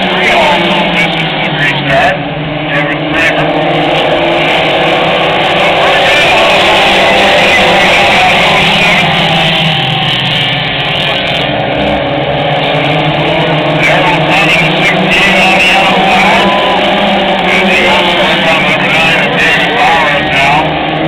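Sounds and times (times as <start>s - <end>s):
voices: 0.0s - 11.5s, 13.2s - 21.0s
race car engines at speed: 0.0s - 21.0s.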